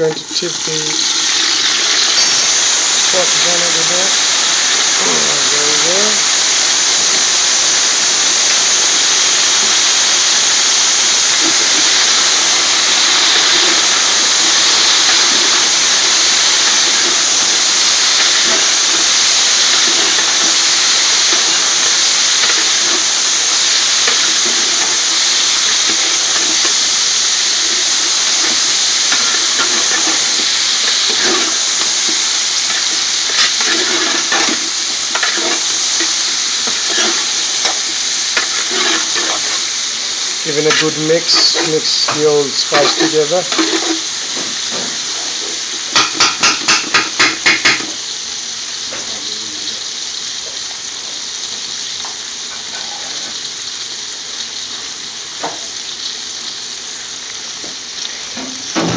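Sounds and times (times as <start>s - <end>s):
chillies sizzling in hot oil: 0.0s - 58.9s.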